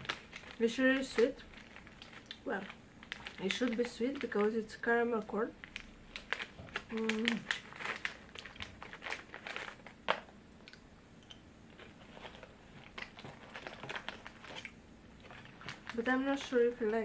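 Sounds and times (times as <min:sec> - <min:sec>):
plastic bag crinkling: 0:00.0 - 0:10.3, 0:11.7 - 0:17.0.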